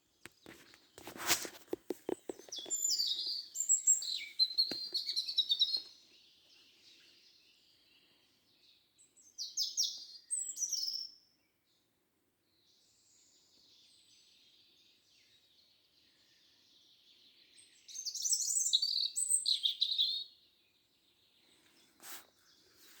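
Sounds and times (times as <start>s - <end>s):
songbirds singing: 1.7s - 23.0s.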